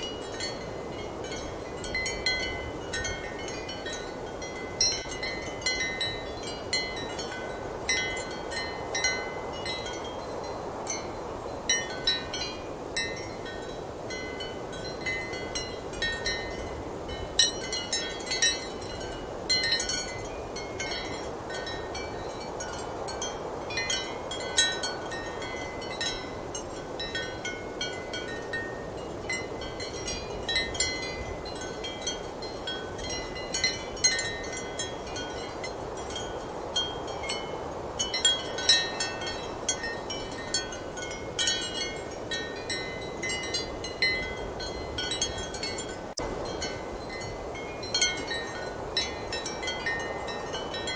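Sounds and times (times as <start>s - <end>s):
ceramic wind chimes clinking: 0.0s - 50.9s.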